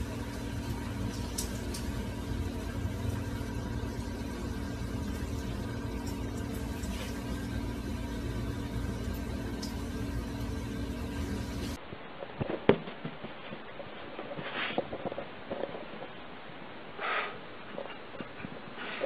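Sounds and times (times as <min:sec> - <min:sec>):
mechanical hum and hiss: 0:00.0 - 0:19.0.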